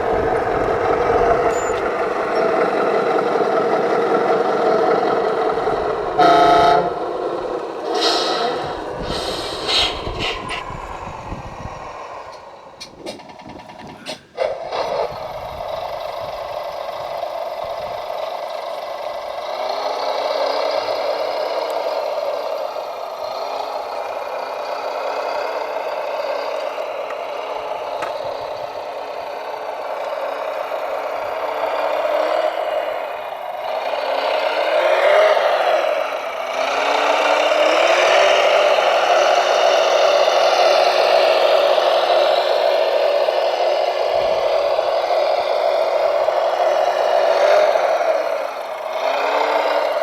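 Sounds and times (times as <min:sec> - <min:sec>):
model vehicle motor hum: 0:00.0 - 0:50.0.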